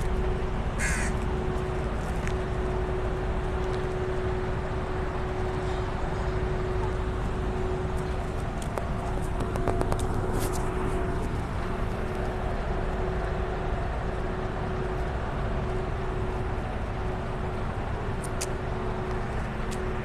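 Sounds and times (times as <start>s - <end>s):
low outdoor rumble: 0.0s - 20.0s
mid-pitched hum: 0.0s - 20.0s.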